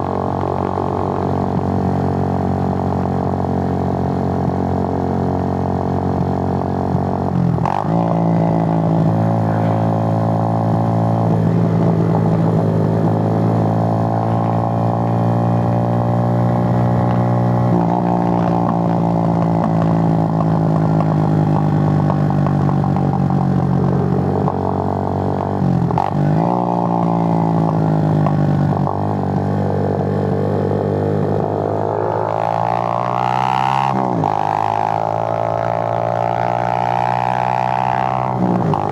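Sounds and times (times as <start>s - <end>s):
motorcycle engine at road speed: 0.0s - 38.9s.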